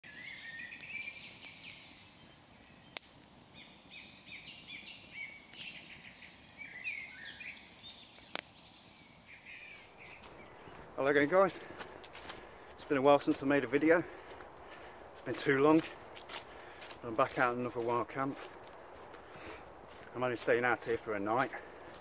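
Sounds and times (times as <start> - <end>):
campfire pops: 0.3 - 6.6, 7.6 - 9.3, 10.0 - 22.0.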